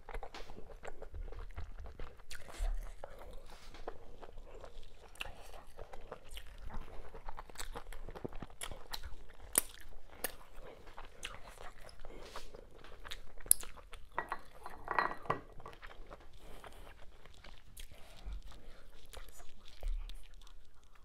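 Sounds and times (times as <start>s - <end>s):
close chewing and wet mouth sounds: 0.0s - 21.0s.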